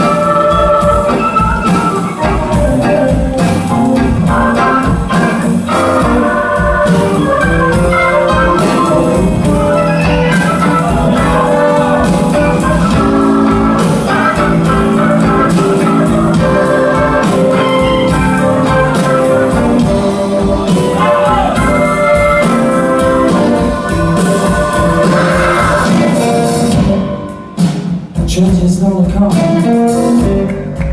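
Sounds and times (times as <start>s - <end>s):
live blues band playing: 0.0s - 30.9s.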